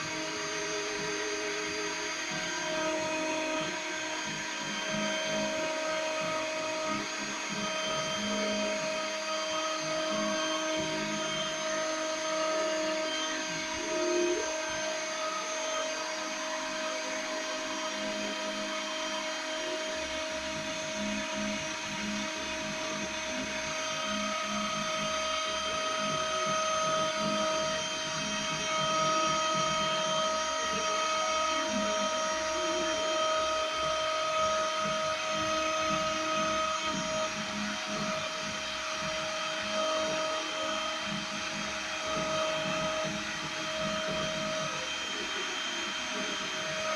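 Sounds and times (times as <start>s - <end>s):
milling machine spindle whine: 0.0s - 46.9s.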